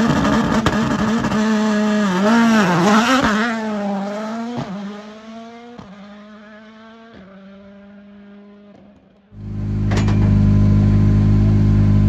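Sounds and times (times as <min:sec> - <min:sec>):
rally car accelerating: 0:00.0 - 0:12.0.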